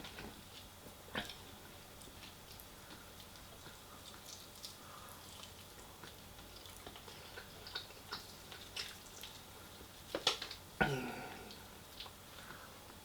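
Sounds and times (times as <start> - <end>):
person chewing crunchy food: 0.0 - 12.7.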